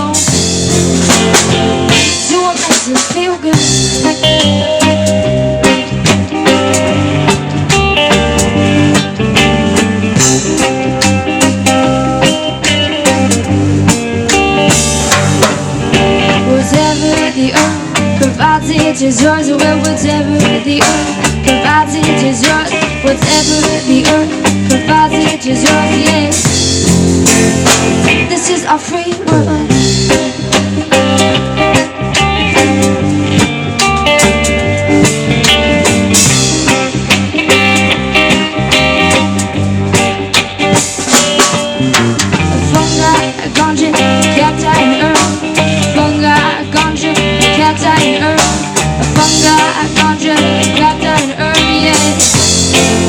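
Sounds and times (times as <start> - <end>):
bass: 0.0 - 53.0
drum kit steady beat: 0.0 - 53.0
guitar: 0.0 - 53.0
live band playing: 0.0 - 53.0.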